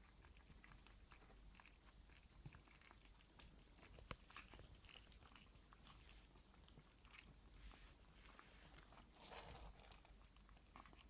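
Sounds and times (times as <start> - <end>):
puppies chewing wet food: 0.0 - 11.0.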